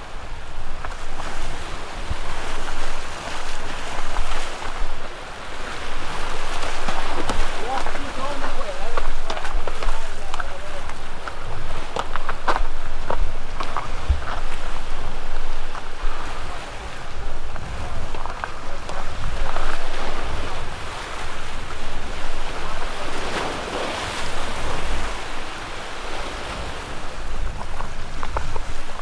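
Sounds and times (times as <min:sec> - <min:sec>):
ocean waves washing in: 0:00.0 - 0:29.0
wind on microphone: 0:00.0 - 0:29.0.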